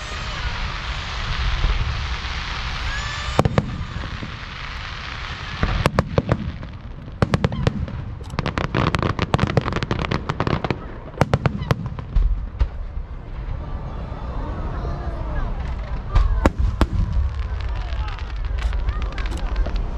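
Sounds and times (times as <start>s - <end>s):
fireworks hissing crackle: 0.0s - 13.6s, 15.2s - 19.9s
fireworks bangs: 0.0s - 13.9s, 15.3s - 19.9s.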